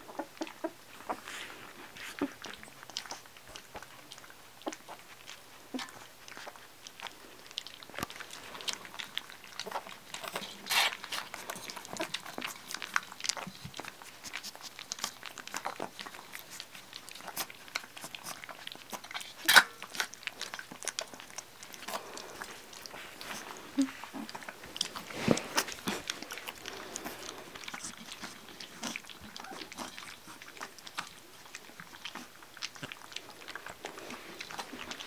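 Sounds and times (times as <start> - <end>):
puppies lapping from metal dish: 0.0 - 35.0.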